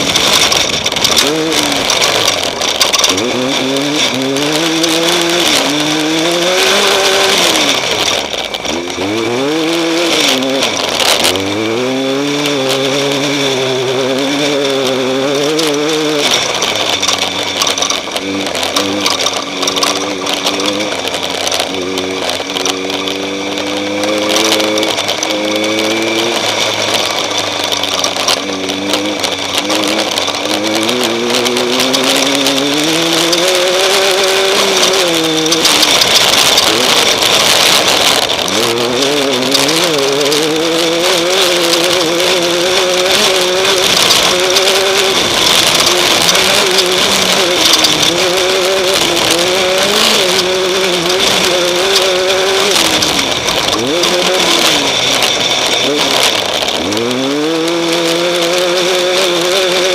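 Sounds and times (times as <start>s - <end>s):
constant hiss: 0.0s - 59.9s
engine revving under load: 0.0s - 59.9s
knocks and rattles: 0.0s - 59.9s.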